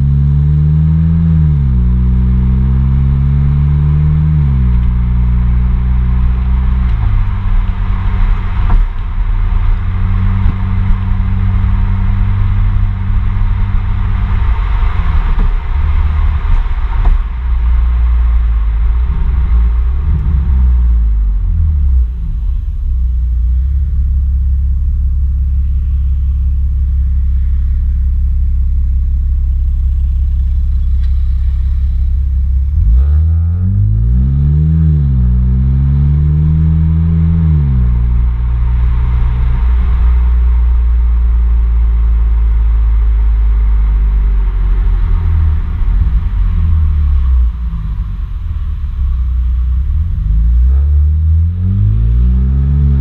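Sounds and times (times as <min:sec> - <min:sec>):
car exhaust drone and revving: 0:00.0 - 0:53.0.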